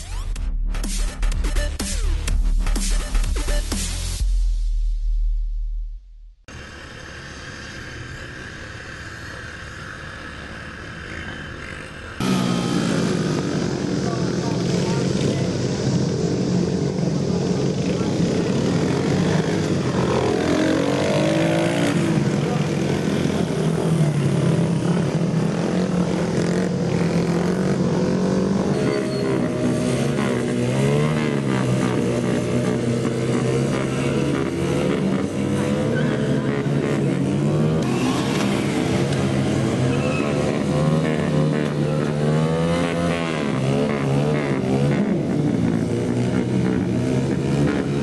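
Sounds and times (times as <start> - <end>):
mini bike engines revving: 6.5 - 48.0.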